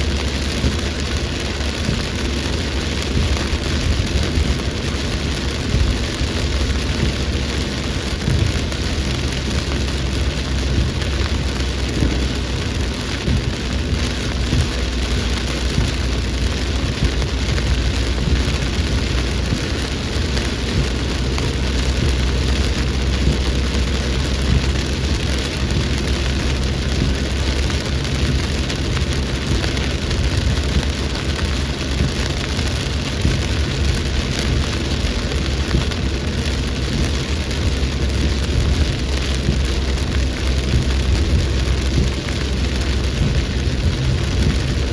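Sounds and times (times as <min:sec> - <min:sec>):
heavy rain falling: 0:00.0 - 0:44.9
low rumble: 0:00.0 - 0:44.9.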